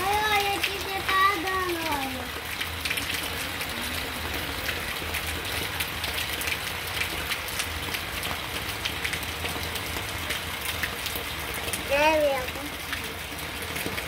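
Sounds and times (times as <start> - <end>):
heavy rain falling: 0.0 - 14.0
water spouting from a gutter: 0.0 - 14.0.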